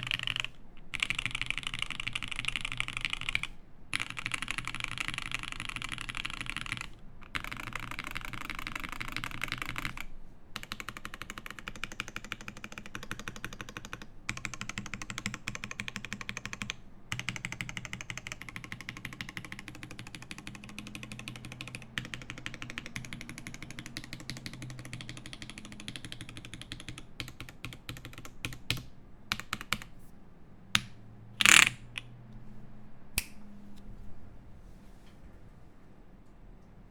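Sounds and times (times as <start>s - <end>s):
mechanical keyboard typing: 0.0s - 29.9s, 30.8s - 32.1s.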